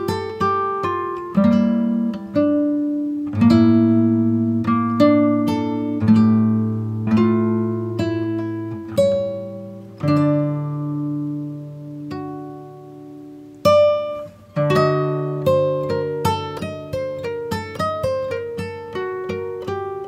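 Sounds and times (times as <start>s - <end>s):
acoustic guitar plucked chords: 0.0s - 20.0s.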